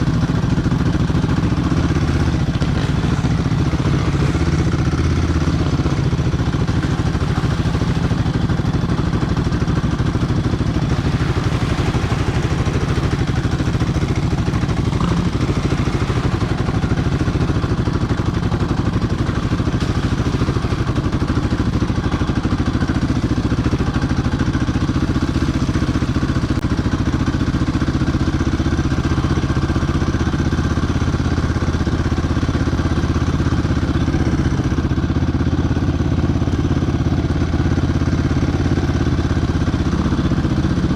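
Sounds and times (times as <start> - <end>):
quad bike engine running: 0.0 - 40.9.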